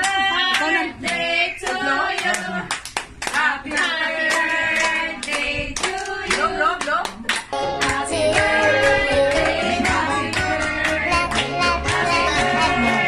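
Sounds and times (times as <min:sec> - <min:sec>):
group singing birthday song: 0:00.0 - 0:13.0
hands clapping: 0:00.0 - 0:13.0.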